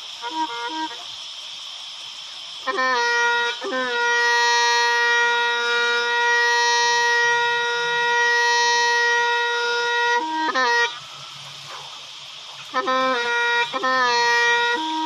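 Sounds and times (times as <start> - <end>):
bamboo pipe playing: 0.0 - 1.3, 2.5 - 15.0.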